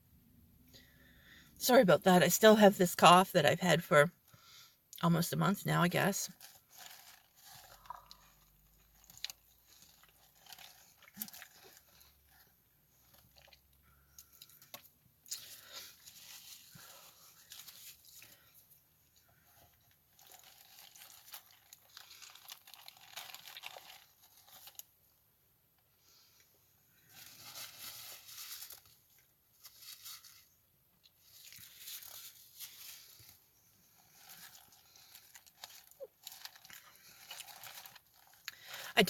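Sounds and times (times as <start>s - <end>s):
crunching and chewing of croissant: 6.3s - 25.0s, 26.2s - 38.9s.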